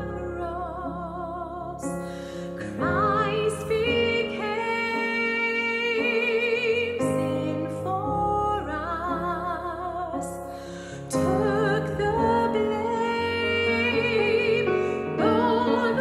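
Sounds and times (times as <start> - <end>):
woman singing a slow hymn: 0.0 - 1.9, 2.6 - 10.4, 11.1 - 16.0
digital piano chords: 0.0 - 16.0.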